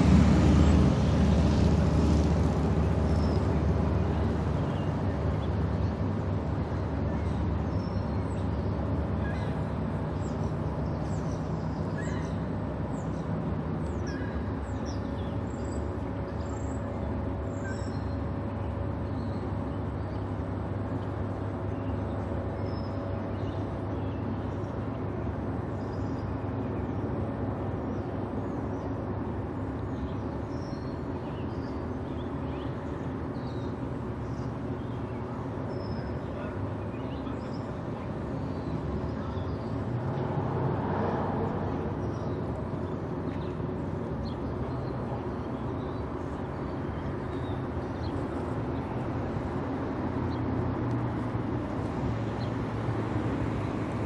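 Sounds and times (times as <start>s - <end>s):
low ship machinery hum: 0.0s - 54.0s
small birds chirping: 2.7s - 40.3s, 41.7s - 54.0s.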